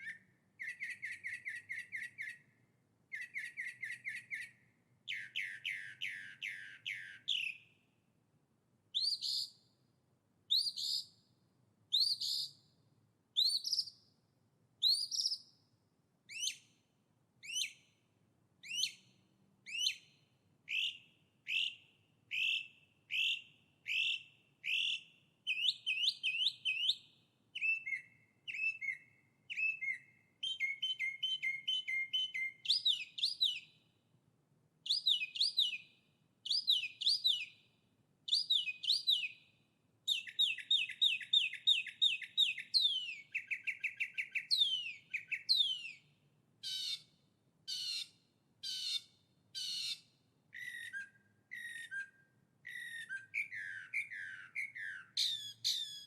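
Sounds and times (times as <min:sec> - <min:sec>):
songbird singing: 0:00.0 - 0:08.0, 0:08.9 - 0:09.8, 0:10.5 - 0:11.3, 0:11.9 - 0:12.8, 0:13.4 - 0:14.2, 0:14.8 - 0:15.7, 0:16.3 - 0:18.0, 0:18.6 - 0:34.0, 0:34.8 - 0:56.0.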